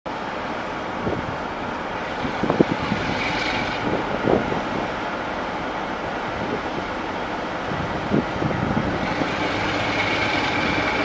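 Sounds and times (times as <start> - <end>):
diesel locomotive engine rumble: 0.1 - 11.0
station noise: 0.6 - 11.0.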